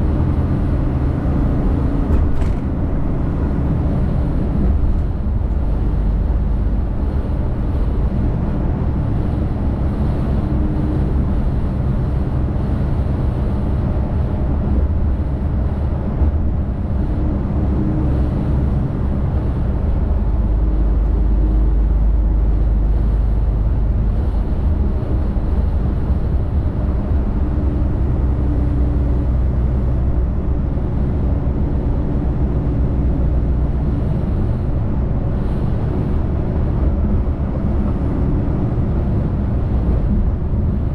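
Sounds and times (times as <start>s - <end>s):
diesel truck engine drone: 0.0s - 40.9s
road rumble: 0.0s - 40.9s.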